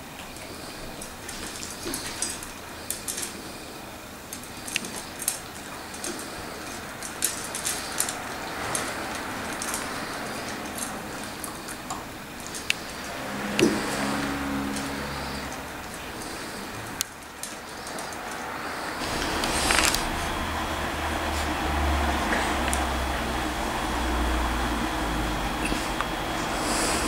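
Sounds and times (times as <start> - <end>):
puppies crunching food: 0.2 - 27.0.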